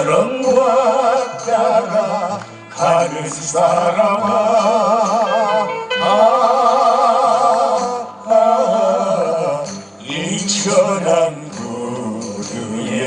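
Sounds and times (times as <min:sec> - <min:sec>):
choir singing: 0:00.0 - 0:13.0
instrumental accompaniment: 0:00.0 - 0:13.0.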